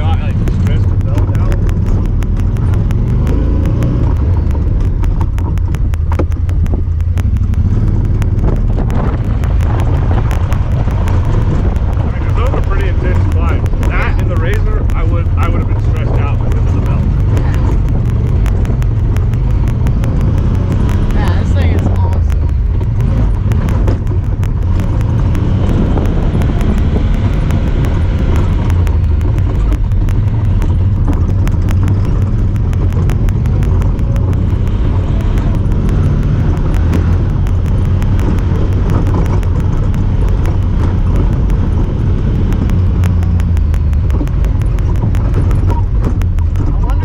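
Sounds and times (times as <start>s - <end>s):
fast faint ticking: 0.0s - 47.0s
vehicle engine droning: 0.0s - 47.0s.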